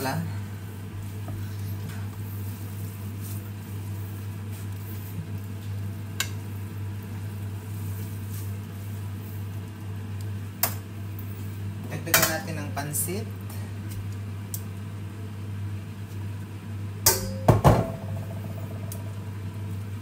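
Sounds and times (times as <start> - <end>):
noodles sizzling in a frying pan: 0.0 - 17.0, 17.6 - 20.0
steady low hum: 0.0 - 20.0.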